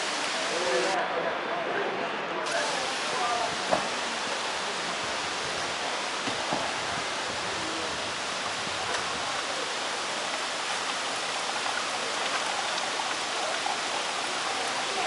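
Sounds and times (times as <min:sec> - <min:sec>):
running water rushing: 0:00.0 - 0:01.0, 0:02.5 - 0:15.0.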